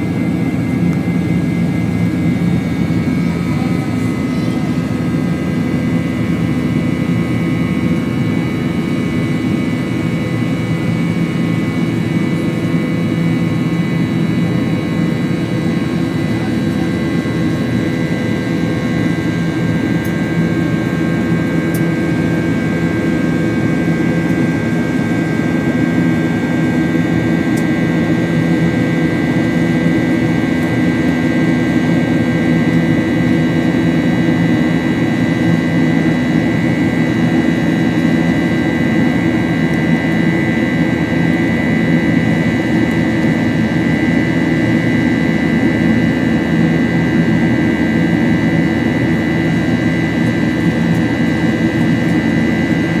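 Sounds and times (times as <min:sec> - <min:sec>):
jet engine cabin drone with whine: 0:00.0 - 0:53.0.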